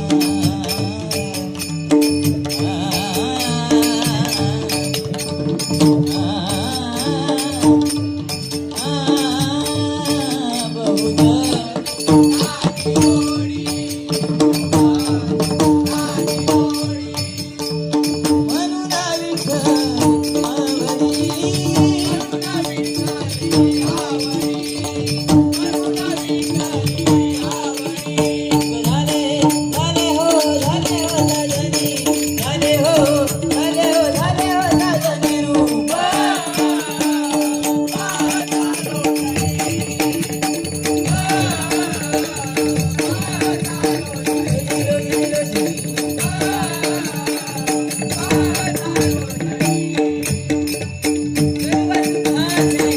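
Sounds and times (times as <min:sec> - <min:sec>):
jingling metal cymbals: 0:00.0 - 0:52.9.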